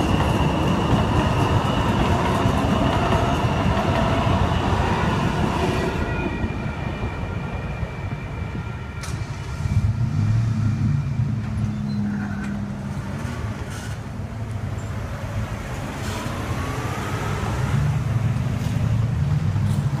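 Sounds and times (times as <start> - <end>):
light-rail train departing: 0.0 - 20.0
road vehicles rumbling: 0.0 - 20.0.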